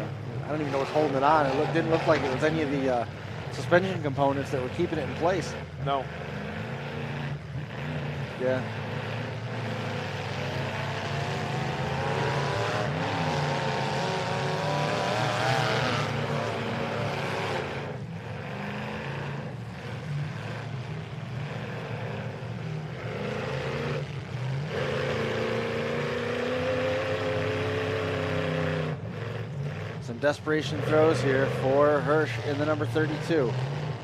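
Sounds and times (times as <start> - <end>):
truck engines revving hard: 0.0 - 34.0.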